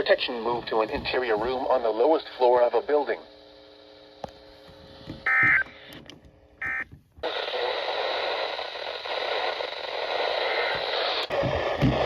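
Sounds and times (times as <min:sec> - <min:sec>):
radio static hiss: 0:00.0 - 0:05.1, 0:07.2 - 0:12.0.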